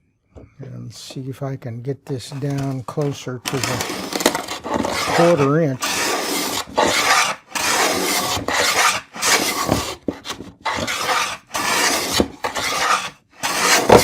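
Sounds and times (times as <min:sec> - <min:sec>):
plane shaving wood: 0:02.3 - 0:14.0.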